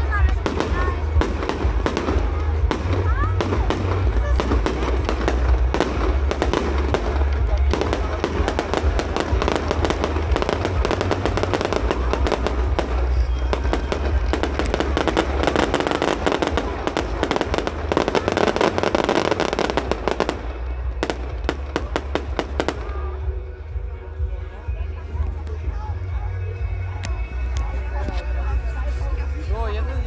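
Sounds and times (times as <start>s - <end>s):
fireworks crackling: 0.0s - 30.0s.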